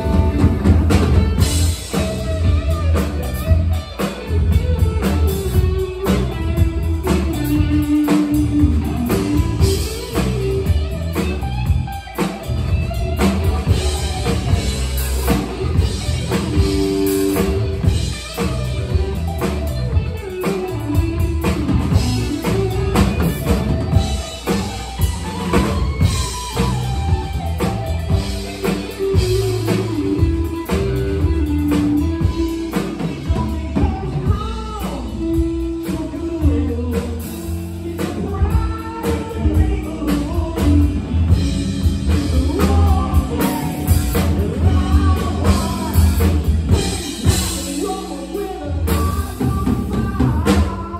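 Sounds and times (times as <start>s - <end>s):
drum kit: 0.0s - 50.9s
electric guitar: 0.0s - 50.9s.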